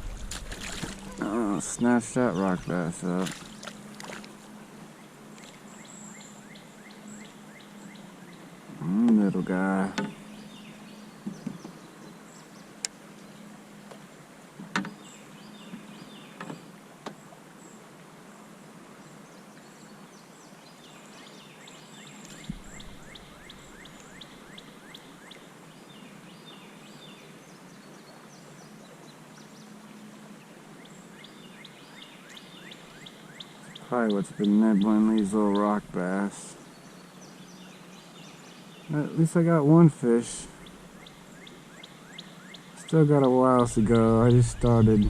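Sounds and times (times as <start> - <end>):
birds chirping trills: 0.0 - 13.9, 14.8 - 45.0
outdoor background noise: 0.0 - 45.0.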